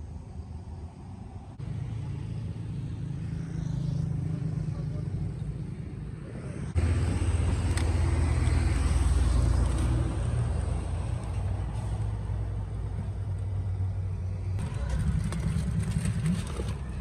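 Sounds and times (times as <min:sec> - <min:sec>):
vehicle engine running: 0:01.6 - 0:17.0.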